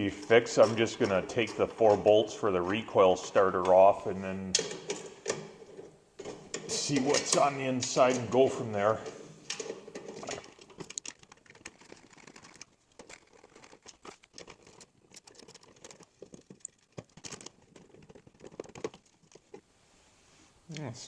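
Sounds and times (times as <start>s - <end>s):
loose bolts rattling on metal: 0.0s - 19.6s.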